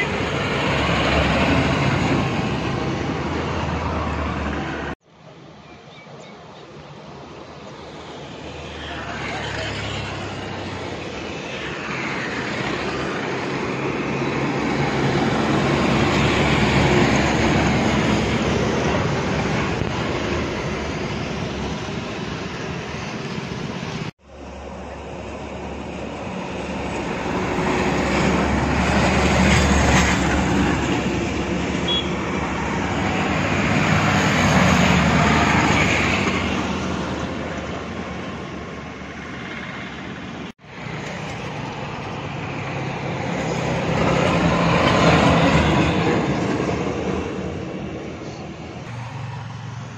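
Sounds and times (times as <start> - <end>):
heavy vehicles driving past: 0.0 - 5.0, 7.5 - 49.9.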